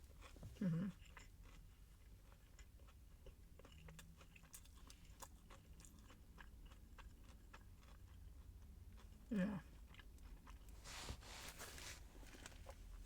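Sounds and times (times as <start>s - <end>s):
chewing crispy food: 0.0s - 13.0s.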